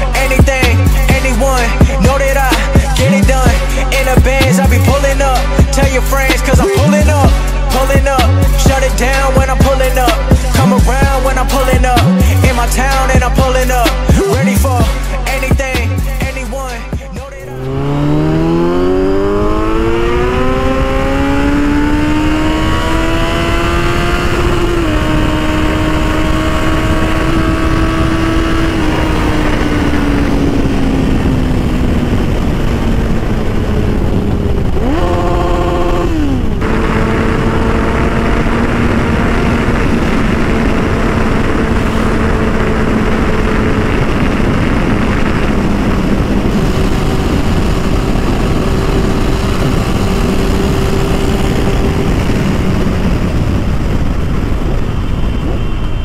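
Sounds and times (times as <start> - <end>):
heavy wind noise: 0.0 - 56.0
motorcycle engine running: 0.0 - 56.0.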